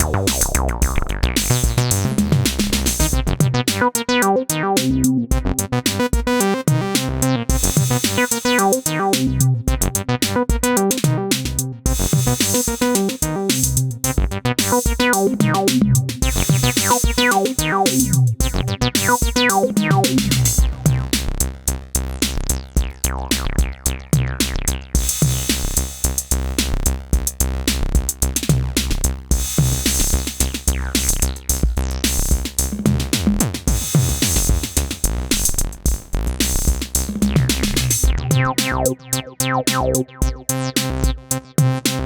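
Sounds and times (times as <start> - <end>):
drum machine beat: 0.0 - 21.6, 22.2 - 42.0
acid synthesizer bass line: 0.0 - 42.0.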